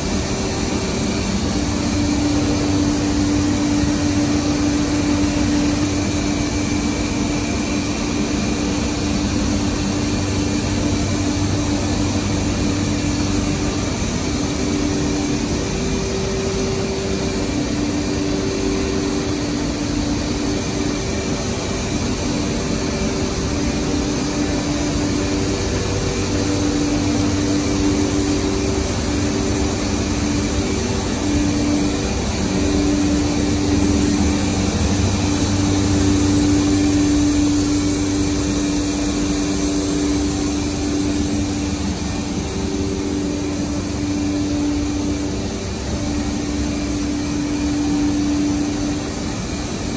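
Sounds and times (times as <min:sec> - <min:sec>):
steady machine hum: 0:00.0 - 0:49.9.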